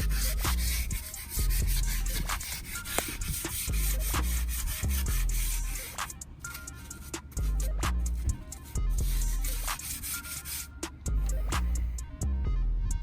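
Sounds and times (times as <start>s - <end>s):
hand scrubbing car surface: 0.0s - 12.0s
music with pulsing bass beat: 0.0s - 13.0s.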